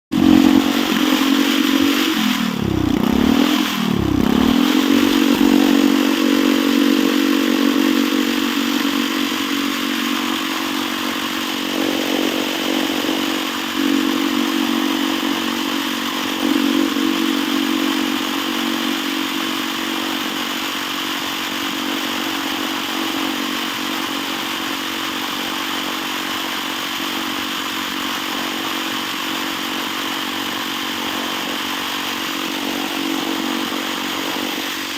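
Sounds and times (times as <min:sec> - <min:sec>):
small engine at high revs: 0:00.1 - 0:34.9.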